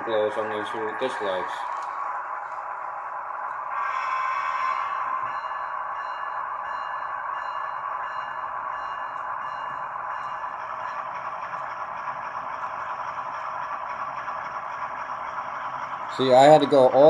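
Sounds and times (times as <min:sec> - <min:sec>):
model diesel engine sound from speaker: 0:00.0 - 0:17.0.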